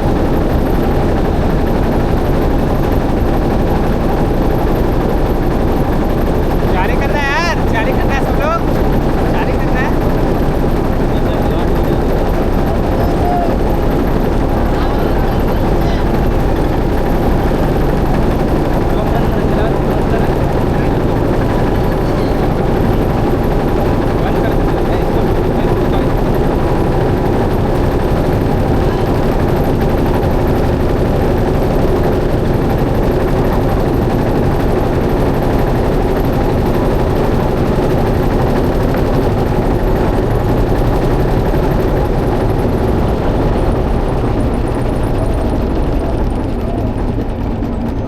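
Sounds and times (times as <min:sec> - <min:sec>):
motorboat engine chugging: 0:00.0 - 0:48.0.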